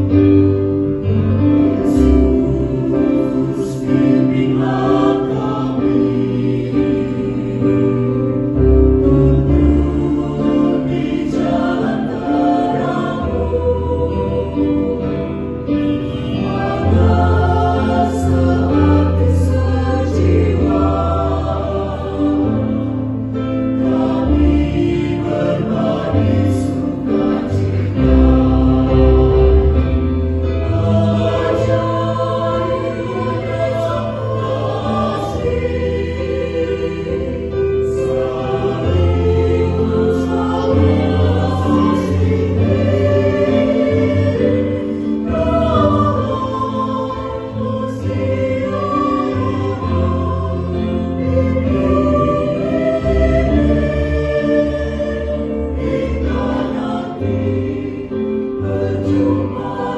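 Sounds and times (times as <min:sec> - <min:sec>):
choir singing a hymn: 0:00.0 - 0:59.9
piano: 0:00.0 - 0:59.9.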